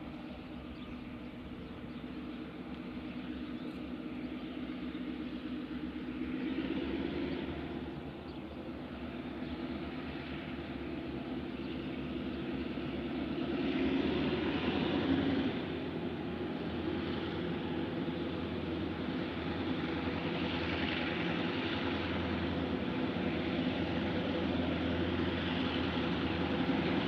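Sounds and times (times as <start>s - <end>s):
distant diesel locomotive drone: 0.0s - 27.0s.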